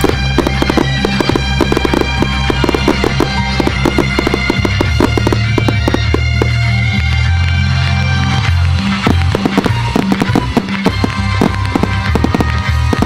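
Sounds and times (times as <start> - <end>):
fireworks bangs and crackles: 0.0 - 13.0
loud music with droning bass: 0.0 - 13.0.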